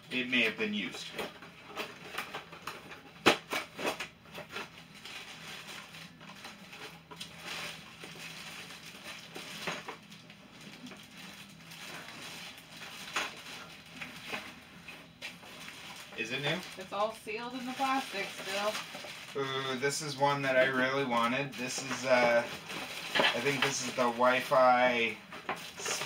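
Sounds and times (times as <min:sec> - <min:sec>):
cardboard rustling and scraping: 0:01.0 - 0:19.4, 0:20.3 - 0:26.0.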